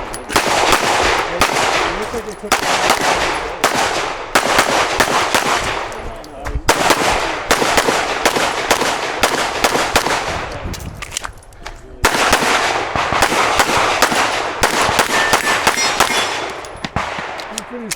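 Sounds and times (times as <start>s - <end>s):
pistol shots: 0.0s - 10.6s, 12.0s - 17.9s.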